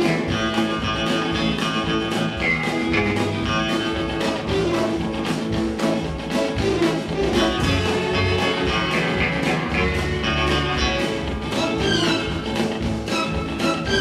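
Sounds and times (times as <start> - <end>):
twangy electric guitar instrumental: 0.0 - 14.0.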